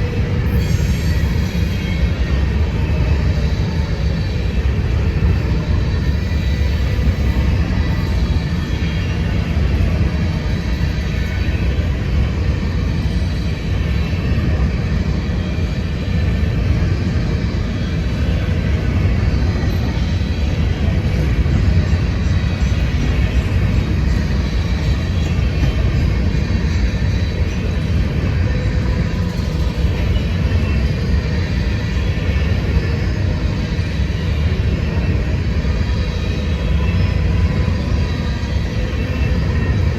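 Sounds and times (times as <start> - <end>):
train rolling past: 0.0 - 39.9.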